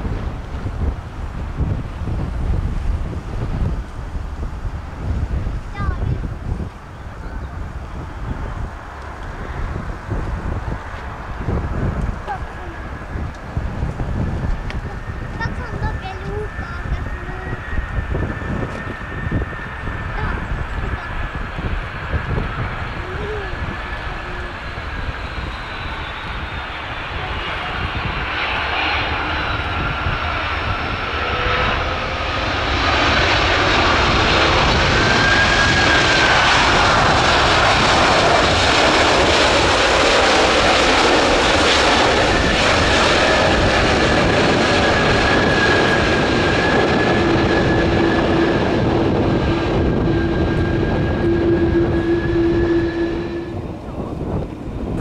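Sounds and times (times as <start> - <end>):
jet engine roar with whine: 0.0 - 55.0.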